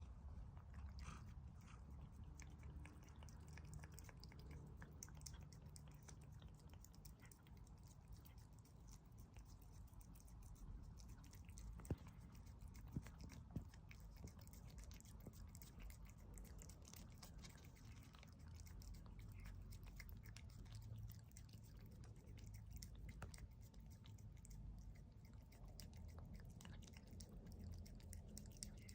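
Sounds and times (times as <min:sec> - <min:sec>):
kitten licking wet clicks: 0:00.2 - 0:28.9.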